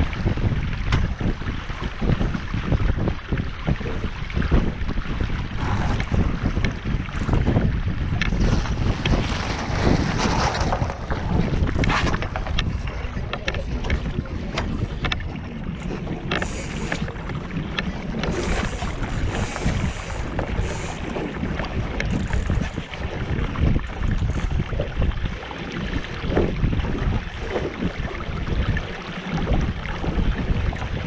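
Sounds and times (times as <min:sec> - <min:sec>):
water washing along hull: 0:00.0 - 0:31.0
wind buffeting microphone: 0:00.0 - 0:31.0.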